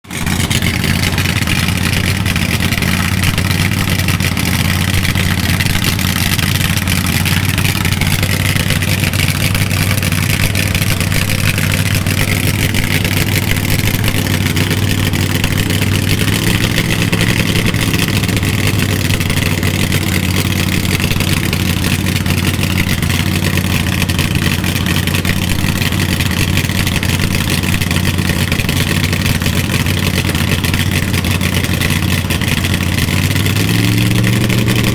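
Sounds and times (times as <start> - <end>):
loud car engine running: 0.0 - 34.9.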